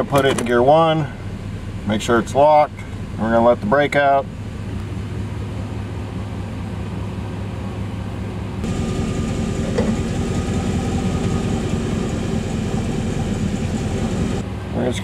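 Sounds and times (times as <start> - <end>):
truck engine idling: 0.0 - 14.9
faint steady whine: 0.0 - 15.0.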